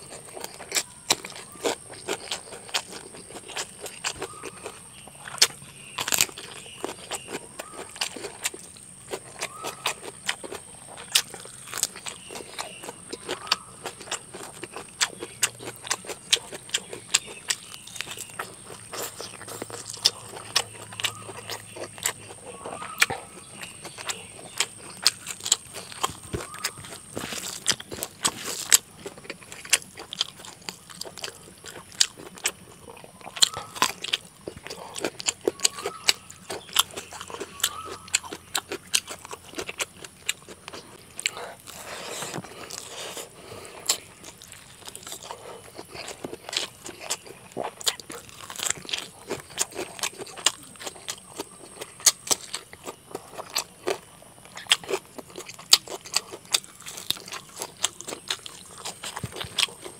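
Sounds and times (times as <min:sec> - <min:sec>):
mouth clicks and crunches: 0:00.0 - 0:59.9
wet chewing and biting: 0:00.0 - 0:59.9.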